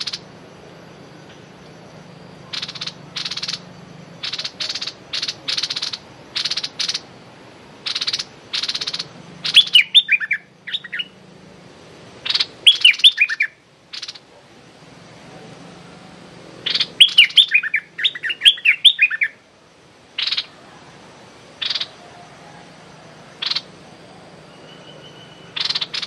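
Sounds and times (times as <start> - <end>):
bulbul harsh calls: 0.0 - 0.4, 1.5 - 11.3, 12.1 - 14.5, 15.5 - 26.0.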